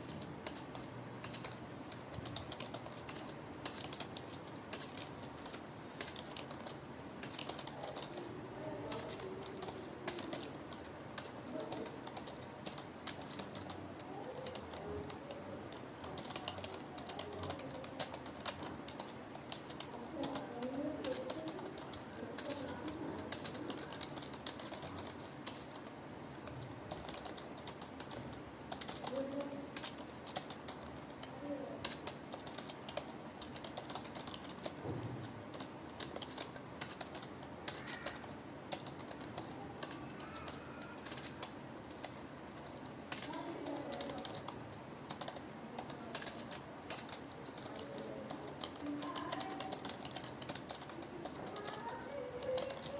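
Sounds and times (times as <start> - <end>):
typing on computer keyboard: 0.0 - 52.9.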